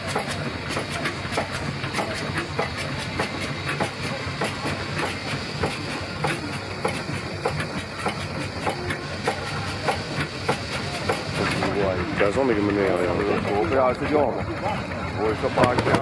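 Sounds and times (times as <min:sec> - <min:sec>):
stationary engine knocking: 0:00.0 - 0:16.0.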